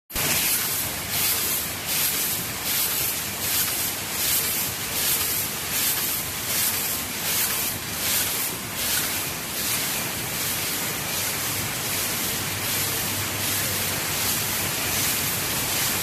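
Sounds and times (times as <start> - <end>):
packaging machine pulsing hiss: 0.2 - 16.0.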